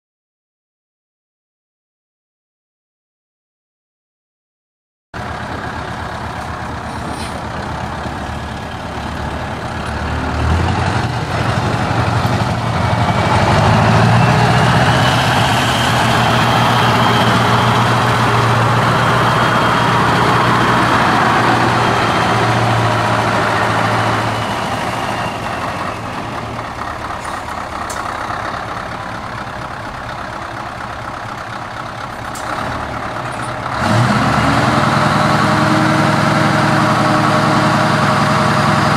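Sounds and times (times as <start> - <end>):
diesel truck engine passing: 5.2 - 38.9.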